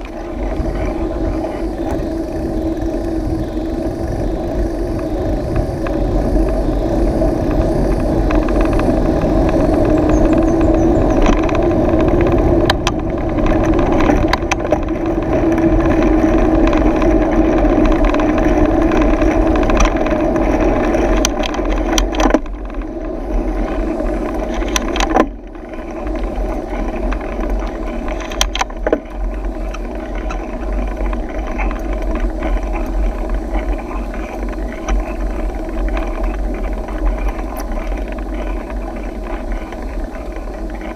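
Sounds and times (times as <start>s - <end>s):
bike knocks and rattles: 0.0s - 40.9s
bike tyre hum on asphalt: 0.0s - 40.9s
wind noise: 0.0s - 40.9s.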